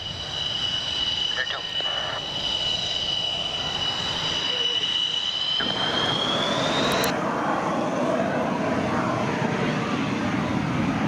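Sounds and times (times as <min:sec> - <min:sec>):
high jet whine: 0:00.0 - 0:11.0
low rushing engine noise: 0:00.0 - 0:11.0.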